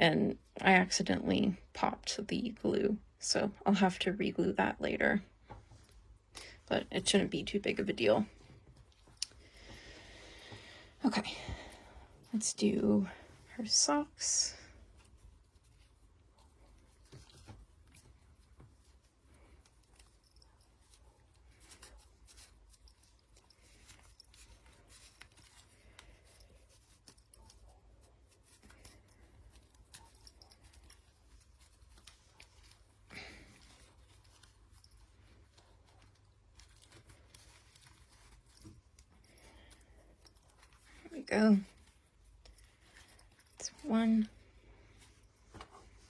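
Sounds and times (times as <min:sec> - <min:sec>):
fabric rustling: 0:06.8 - 0:46.0.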